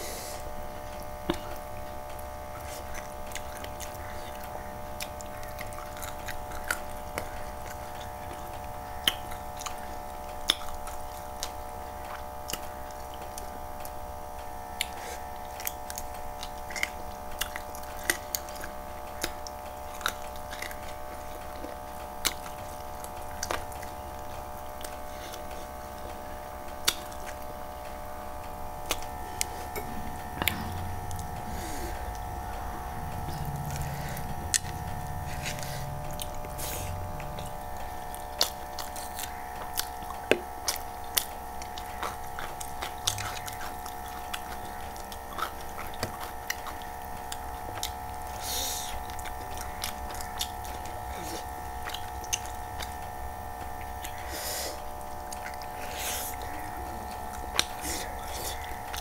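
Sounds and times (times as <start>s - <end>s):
person chewing food: 0.0s - 59.0s
steady electrical hum: 0.0s - 59.0s.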